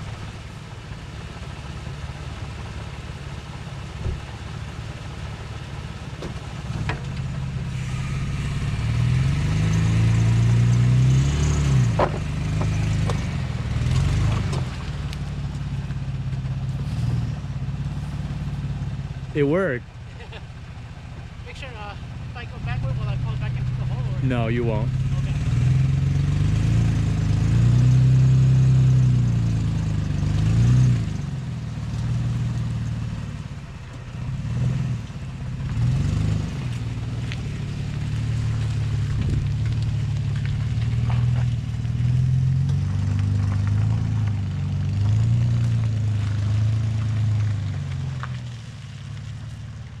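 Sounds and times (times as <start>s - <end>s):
truck engine revving: 6.2s - 49.3s.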